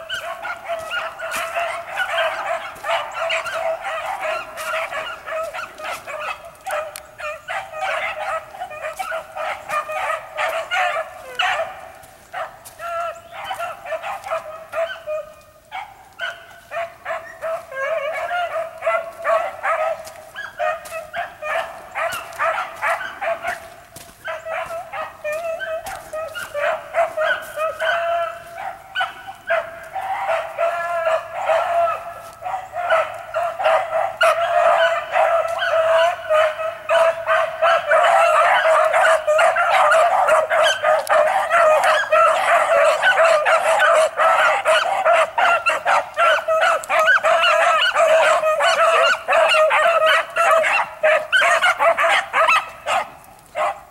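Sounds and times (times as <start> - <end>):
dogs barking yipping and howling: 0.0 - 53.9.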